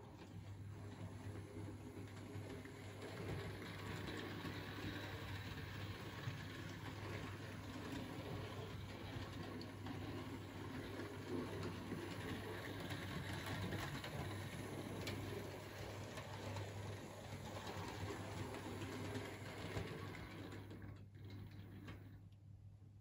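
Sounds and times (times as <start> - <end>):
wheels rattling over rail joints: 0.2 - 22.1.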